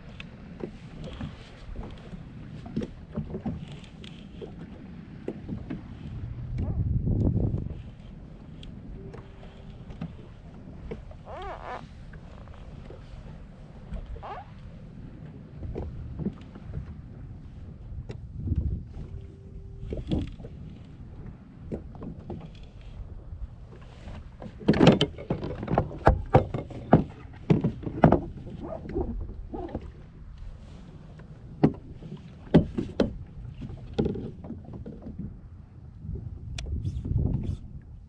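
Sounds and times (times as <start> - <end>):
knocks and clunks on kayak: 0.0 - 38.0
water rumbling against hull: 0.0 - 38.0.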